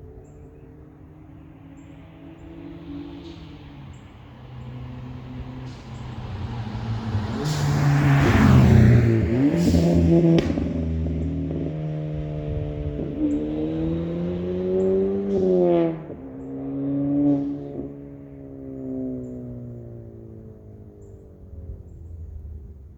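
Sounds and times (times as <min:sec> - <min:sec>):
car engine accelerating hard: 0:00.0 - 0:22.9.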